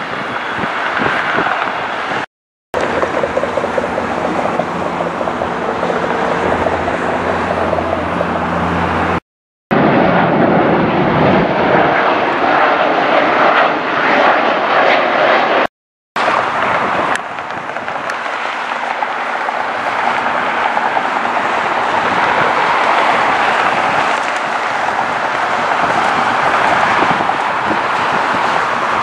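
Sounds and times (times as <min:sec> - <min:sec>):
jet engine hum: 0:00.0 - 0:29.0
jet roar: 0:00.0 - 0:29.0.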